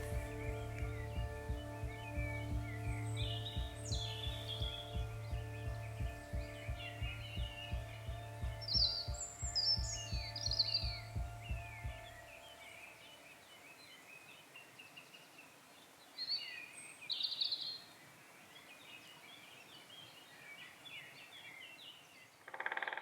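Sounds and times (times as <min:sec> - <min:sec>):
faint background hiss: 0:00.0 - 0:22.6
small birds chirping: 0:00.0 - 0:23.0.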